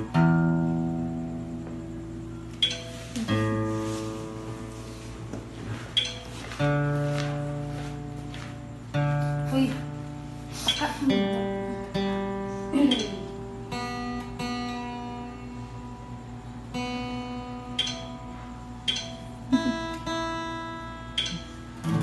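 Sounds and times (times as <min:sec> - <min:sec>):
acoustic guitar being tuned: 0:00.0 - 0:22.0.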